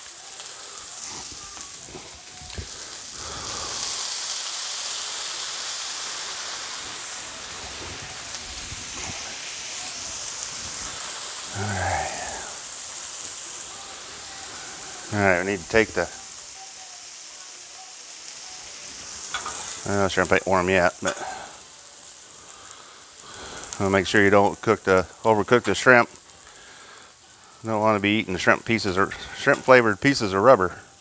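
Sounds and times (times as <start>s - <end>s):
food sizzling on griddle: 0.0s - 31.0s
water hissing into steam: 0.0s - 31.0s.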